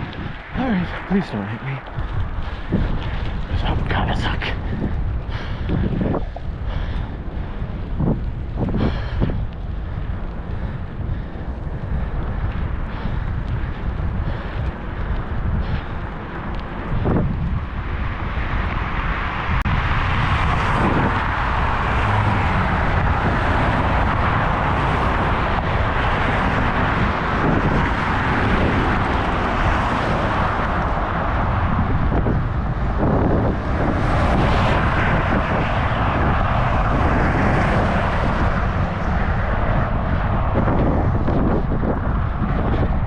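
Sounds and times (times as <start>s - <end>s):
road noise: 0.0s - 43.0s
wind roaring over microphone: 0.0s - 43.0s.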